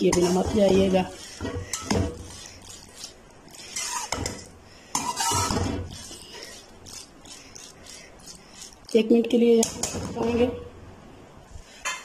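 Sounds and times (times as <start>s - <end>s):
metal spatula scraping a pan: 0.0s - 10.5s.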